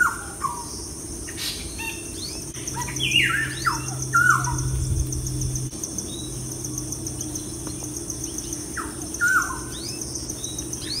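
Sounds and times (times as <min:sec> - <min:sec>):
insect pulsing chirr: 0:00.0 - 0:11.0.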